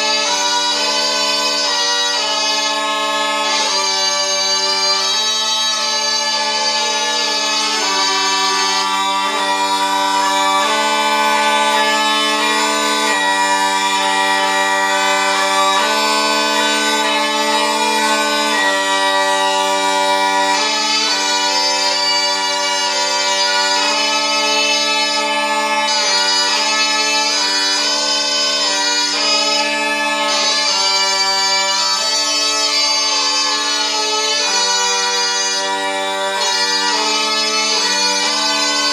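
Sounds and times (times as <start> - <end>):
bagpipe melody over drones: 0.0 - 38.9.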